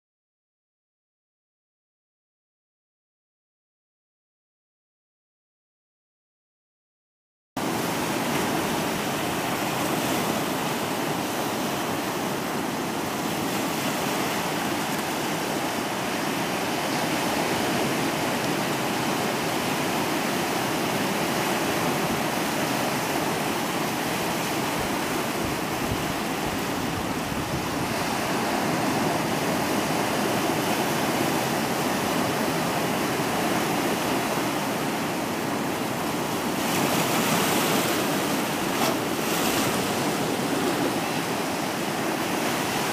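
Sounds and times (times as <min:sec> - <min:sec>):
waves breaking on rocky shore: 0:07.6 - 0:42.9.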